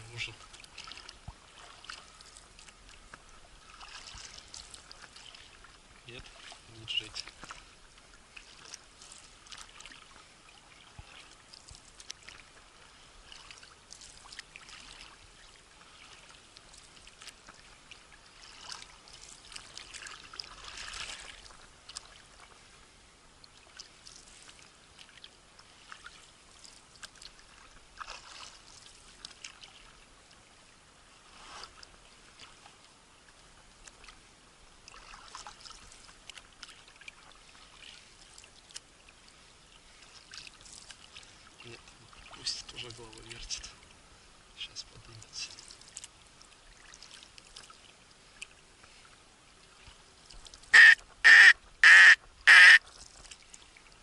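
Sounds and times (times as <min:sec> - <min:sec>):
paddle strokes in water: 0:00.0 - 0:54.0.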